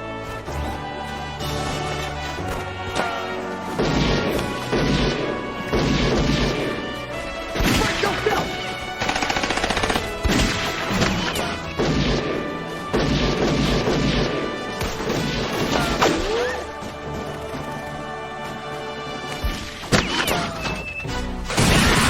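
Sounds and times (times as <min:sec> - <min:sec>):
film soundtrack music: 0:00.0 - 0:22.0.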